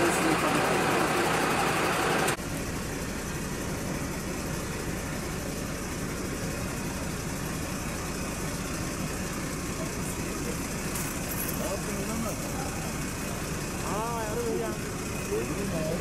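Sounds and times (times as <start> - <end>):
street noise: 0.0 - 16.0
vehicle engine idling: 0.0 - 16.0.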